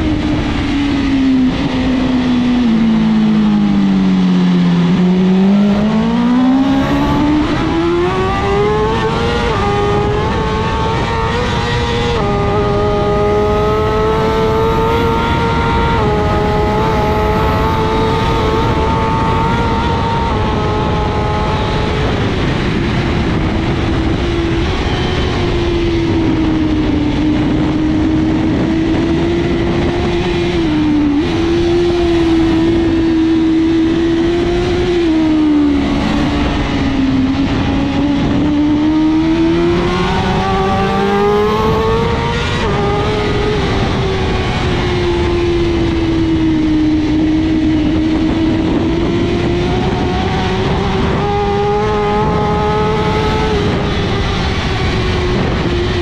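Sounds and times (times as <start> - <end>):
motorcycle engine revving: 0.0 - 56.0
wind noise: 0.0 - 56.0.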